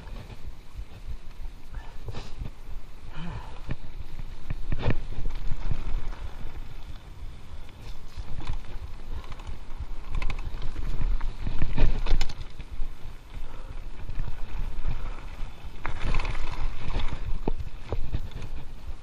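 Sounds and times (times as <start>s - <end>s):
bike rattling over bumps: 0.0s - 19.0s
tyres crunching over gravel: 0.0s - 19.0s
wind on microphone: 0.0s - 19.0s.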